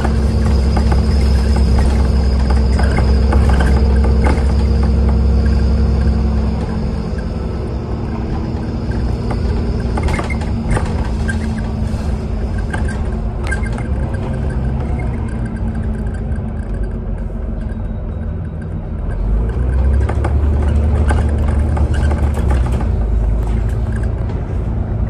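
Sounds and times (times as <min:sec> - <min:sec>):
bus engine drone: 0:00.0 - 0:25.0
interior clicking and rattling: 0:00.0 - 0:25.0.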